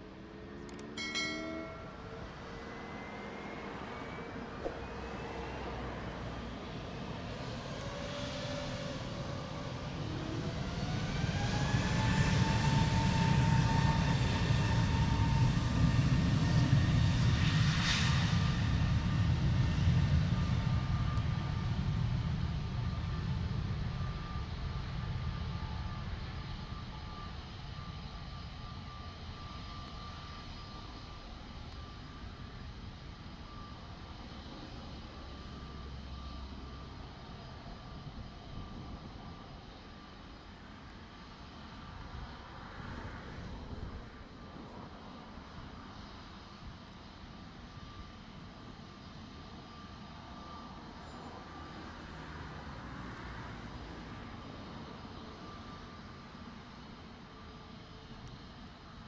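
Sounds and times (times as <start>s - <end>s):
jet engine whine: 0.0s - 59.0s.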